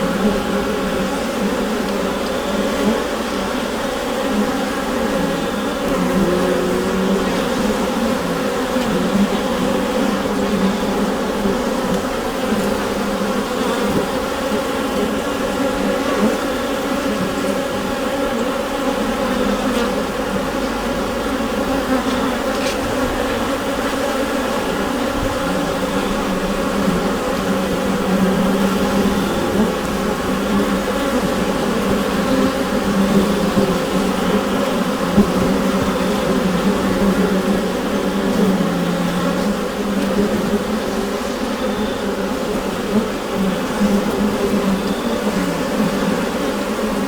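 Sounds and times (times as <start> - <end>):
bees buzzing in a hive: 0.0 - 47.0.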